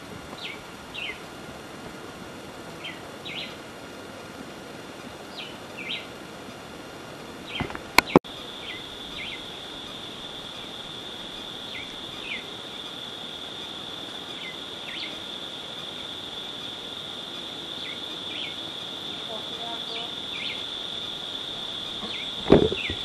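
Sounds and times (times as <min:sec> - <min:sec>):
insects trilling and chirping: 0:00.0 - 0:23.0.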